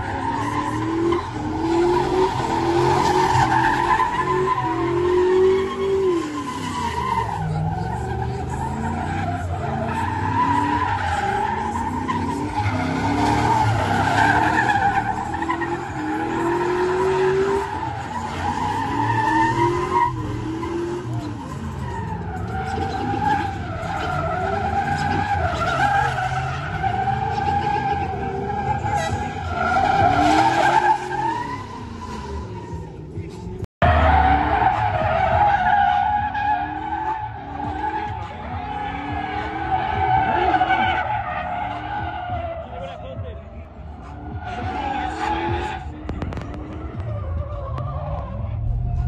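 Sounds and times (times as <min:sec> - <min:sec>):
tires squealing: 0:00.0 - 0:49.0.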